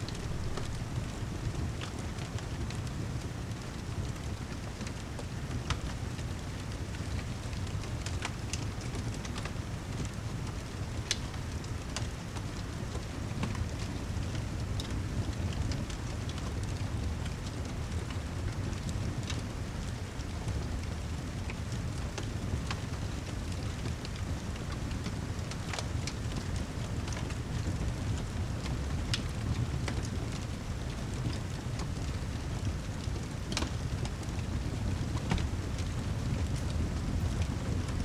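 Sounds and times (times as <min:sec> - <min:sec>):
fireplace crackling and popping: 0:00.0 - 0:38.0
steady rain: 0:00.0 - 0:38.0.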